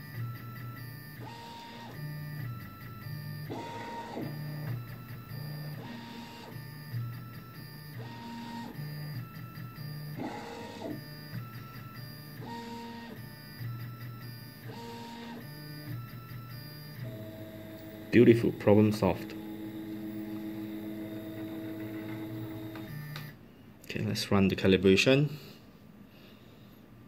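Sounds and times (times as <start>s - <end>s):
stepper motors whining: 0.2s - 23.3s.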